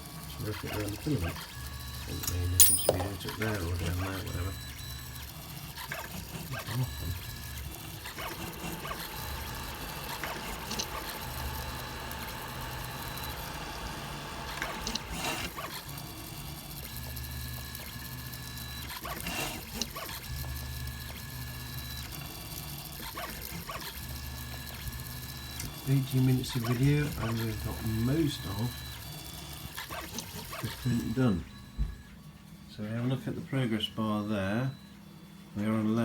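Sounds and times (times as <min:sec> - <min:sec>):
printer stepper motors droning: 0:00.0 - 0:02.6, 0:03.2 - 0:36.0.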